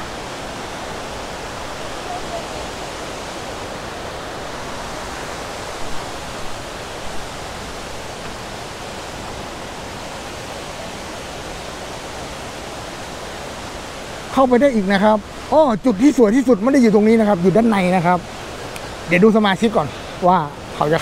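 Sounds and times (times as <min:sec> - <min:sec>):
stream rushing over rapids: 0:00.0 - 0:21.0.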